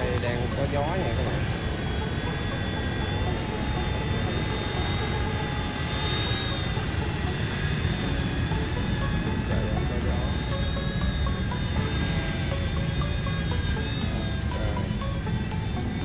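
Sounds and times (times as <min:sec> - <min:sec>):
electric motor whine: 0:00.0 - 0:16.0
rotor blades whirring: 0:00.0 - 0:16.0.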